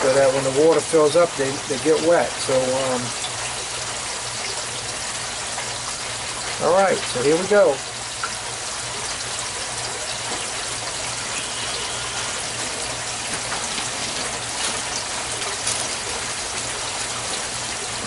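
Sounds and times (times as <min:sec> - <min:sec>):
splashing water rushing: 0:00.0 - 0:18.0.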